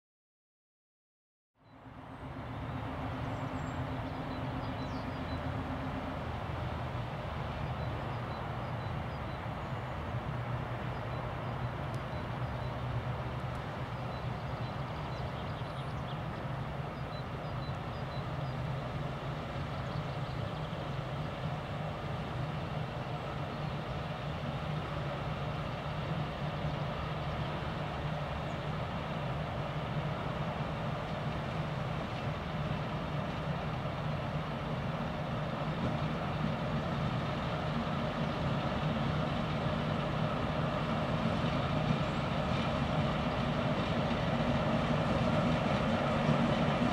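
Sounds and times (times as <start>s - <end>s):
diesel locomotive engine droning: 1.6s - 46.9s.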